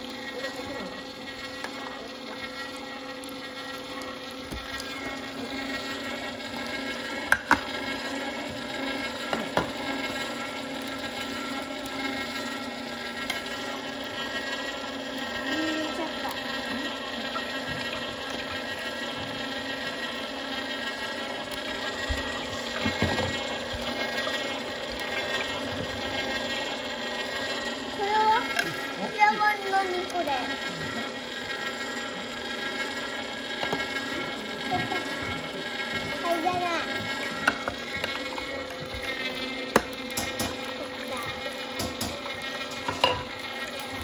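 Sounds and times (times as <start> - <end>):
juicer motor humming: 0.0 - 44.0.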